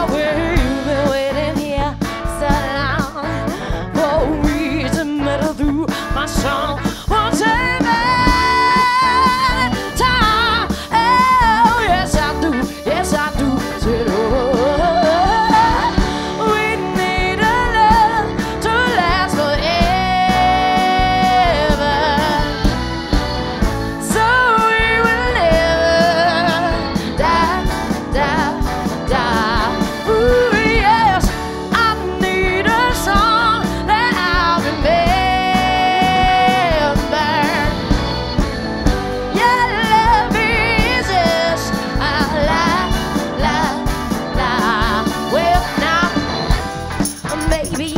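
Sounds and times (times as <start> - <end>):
bass guitar: 0.0 - 47.9
drums: 0.0 - 47.9
electric guitar: 0.0 - 47.9
woman singing lead vocal: 0.0 - 47.9.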